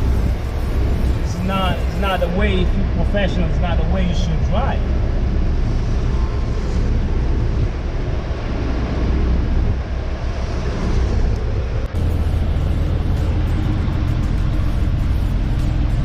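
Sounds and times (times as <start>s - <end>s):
truck engine and road hum: 0.0s - 16.0s.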